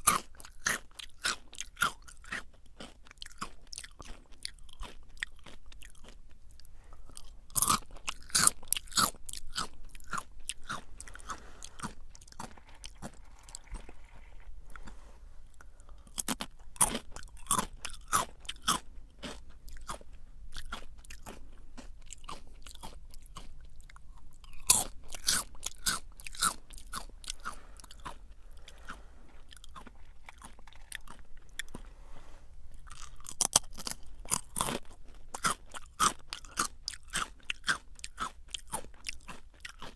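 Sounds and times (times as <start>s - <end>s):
sharp crunches of snack bites: 0.0s - 6.2s, 7.0s - 14.9s, 15.9s - 23.5s, 24.4s - 31.9s, 32.8s - 39.9s
soft chewing: 0.0s - 39.9s.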